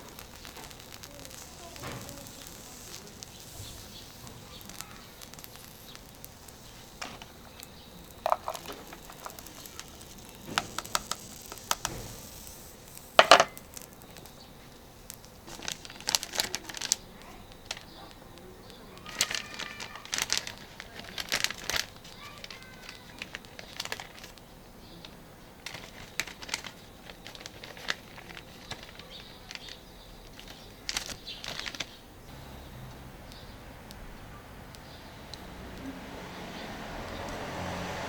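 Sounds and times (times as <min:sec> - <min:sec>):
crinkling: 0:00.0 - 0:36.1.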